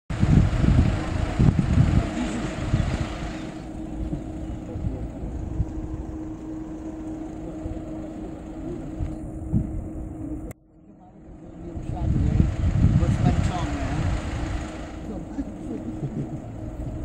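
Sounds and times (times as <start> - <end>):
wind buffeting microphone: 0.1 - 10.5, 11.6 - 15.0
low steady engine hum: 0.1 - 17.0.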